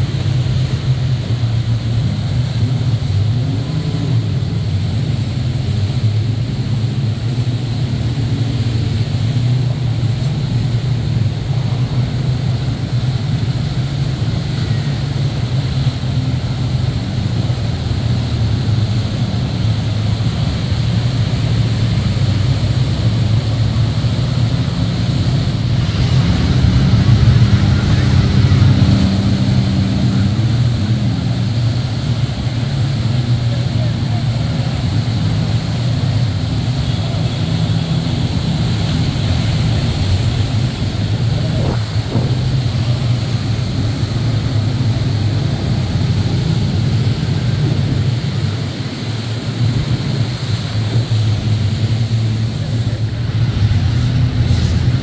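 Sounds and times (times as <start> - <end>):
churning water: 0.0 - 55.0
jet ski engines droning: 0.0 - 55.0.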